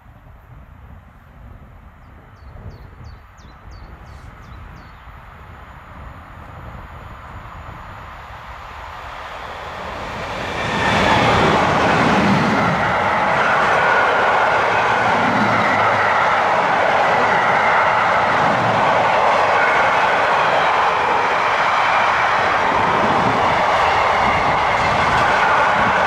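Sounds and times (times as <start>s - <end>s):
electric locomotive passing: 3.3s - 26.0s
steel wheels roaring on rails: 4.1s - 26.0s.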